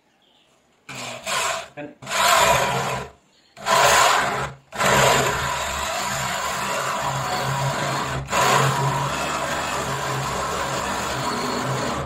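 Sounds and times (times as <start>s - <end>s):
electric drill boring into wood: 0.9s - 12.0s.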